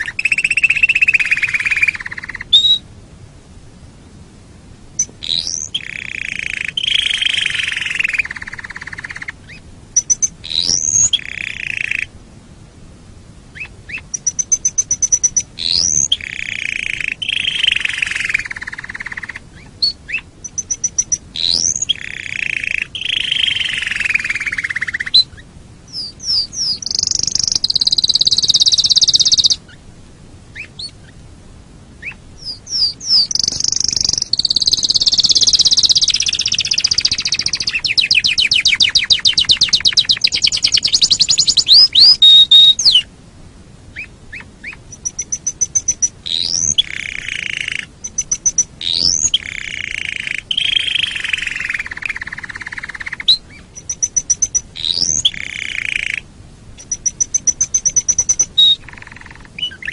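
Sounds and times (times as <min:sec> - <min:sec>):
canary singing: 0:00.0 - 0:02.8, 0:05.0 - 0:12.1, 0:13.5 - 0:29.8, 0:30.5 - 0:31.2, 0:32.0 - 0:43.1, 0:43.9 - 0:59.9.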